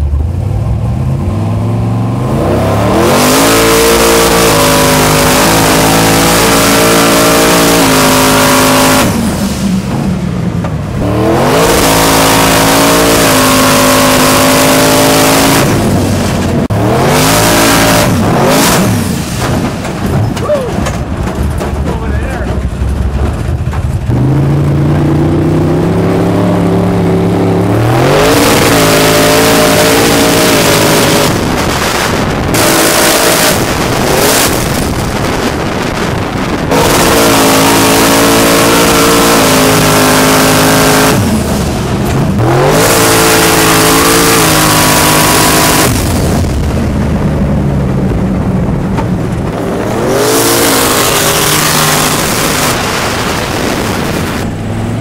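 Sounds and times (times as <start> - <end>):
rush of wind and sand: 0.0 - 55.0
truck engine revving: 0.0 - 55.0.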